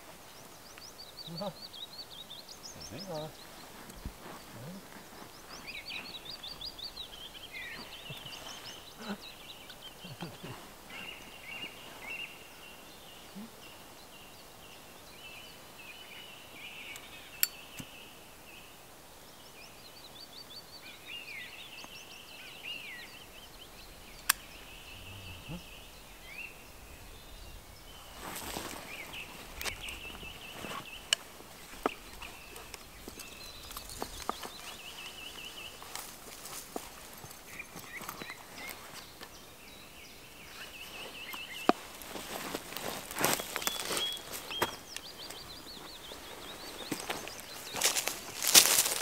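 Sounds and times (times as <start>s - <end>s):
songbirds singing: 0.0s - 49.0s.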